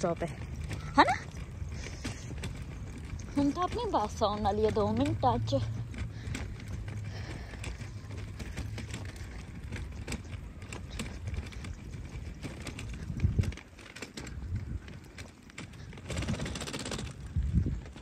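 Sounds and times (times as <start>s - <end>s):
stroller bump: 0.0s - 18.0s
stroller wheels rolling on concrete: 0.0s - 18.0s.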